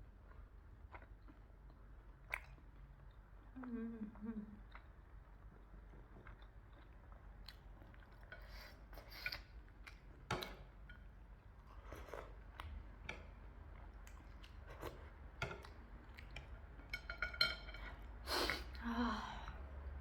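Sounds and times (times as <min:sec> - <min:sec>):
soft eating sounds: 0:00.0 - 0:20.0.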